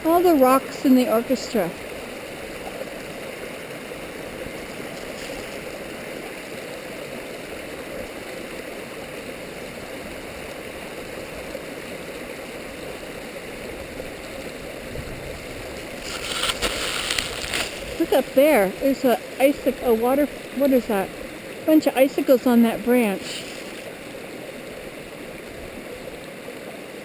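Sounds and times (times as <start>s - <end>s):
stream gurgling over rocks: 0.0s - 27.0s.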